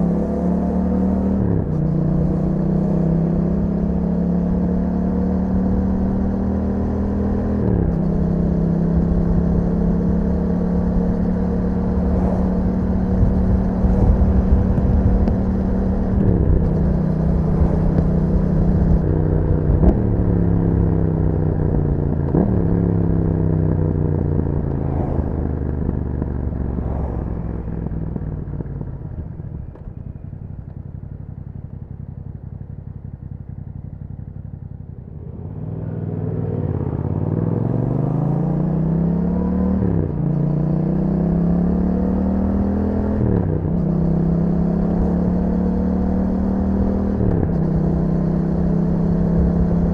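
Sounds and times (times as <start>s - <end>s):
motorcycle engine with gear changes: 0.0s - 49.9s.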